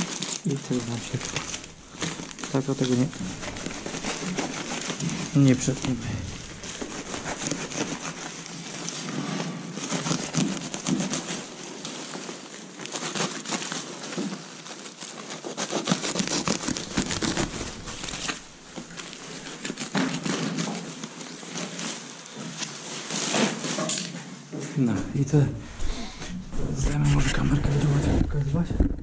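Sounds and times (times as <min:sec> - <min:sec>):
foil crinkling and rustling: 0:00.0 - 0:29.0.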